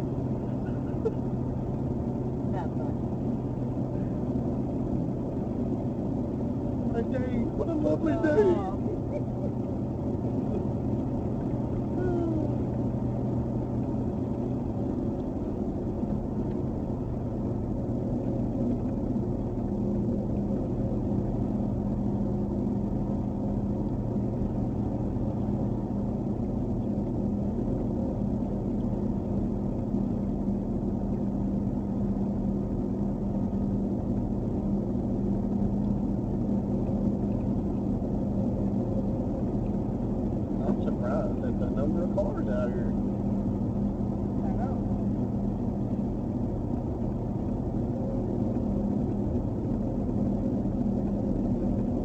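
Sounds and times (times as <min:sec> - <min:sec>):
higher steady hum: 0:00.0 - 0:52.0
truck engine and tyre drone: 0:00.0 - 0:52.0.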